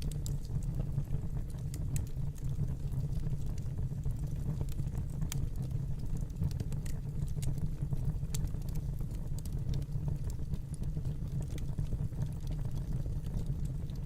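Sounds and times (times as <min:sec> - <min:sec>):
fire popping and snapping: 0:00.0 - 0:14.0
low rumble of flames: 0:00.0 - 0:14.0.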